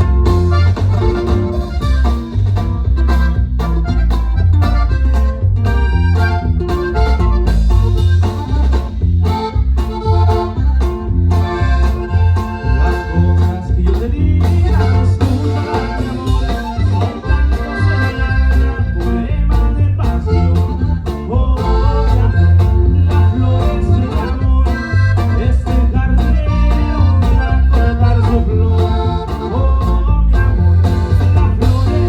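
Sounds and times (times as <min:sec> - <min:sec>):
accordion melody: 0:00.0 - 0:32.0
drums steady beat: 0:00.0 - 0:32.0
electric bass: 0:00.0 - 0:32.0.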